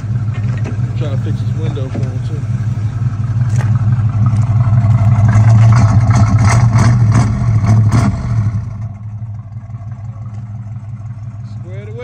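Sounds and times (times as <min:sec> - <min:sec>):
car exhaust rumbling: 0:00.0 - 0:12.0
exhaust crackles: 0:00.0 - 0:12.0.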